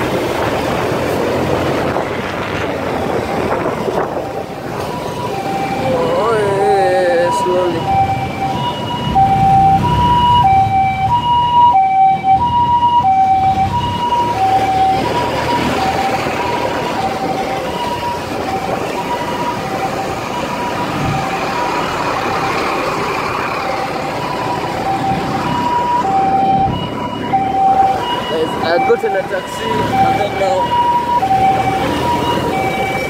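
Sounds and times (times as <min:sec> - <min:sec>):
road traffic rumble: 0:00.0 - 0:33.0
two-tone emergency siren: 0:02.7 - 0:33.0.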